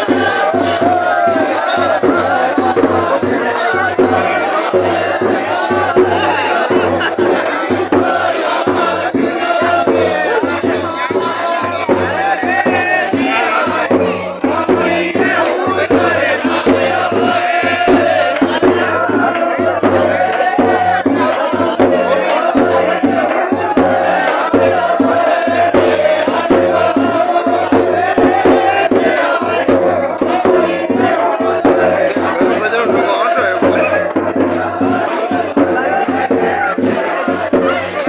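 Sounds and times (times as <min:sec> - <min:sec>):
crowd of men chanting: 0:00.0 - 0:38.0
loud music: 0:00.0 - 0:38.0.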